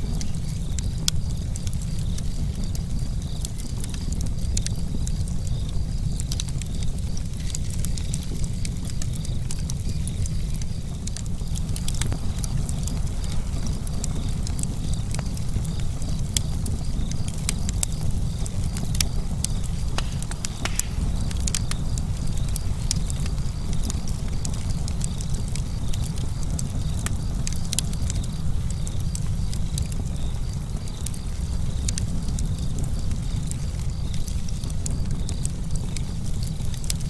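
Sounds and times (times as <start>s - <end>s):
wind rumble on microphone: 0.0s - 37.0s
sharp clicks and crackles: 0.1s - 37.0s.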